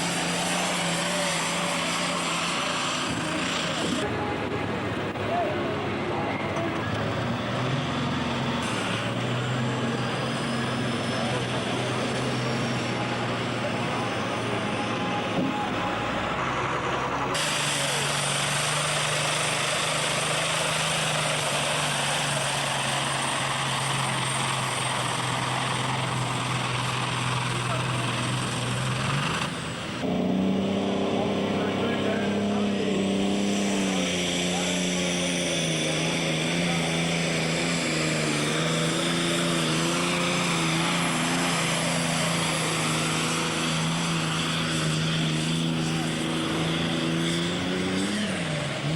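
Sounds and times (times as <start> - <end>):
diesel tractor engine running hard: 0.0 - 48.9.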